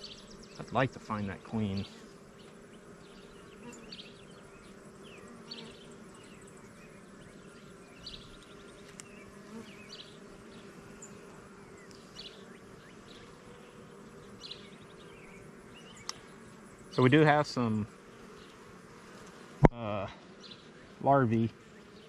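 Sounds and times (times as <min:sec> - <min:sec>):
honey bees buzzing: 0:00.0 - 0:22.0.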